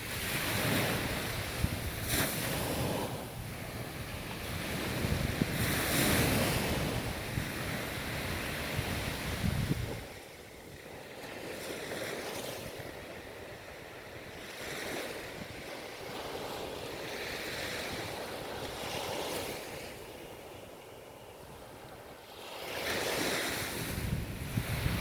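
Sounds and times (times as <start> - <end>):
ocean surf washing ashore: 0.0 - 25.0.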